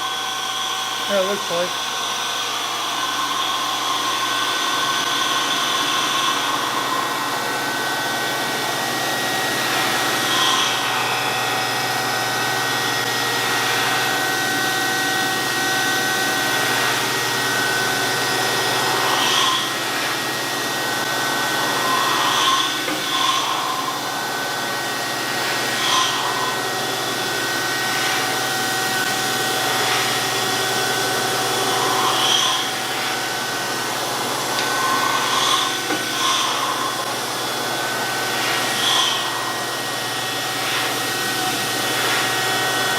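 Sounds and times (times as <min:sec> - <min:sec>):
loud grinding: 0:00.0 - 0:42.9
surface grinder whine and hiss: 0:00.0 - 0:42.9.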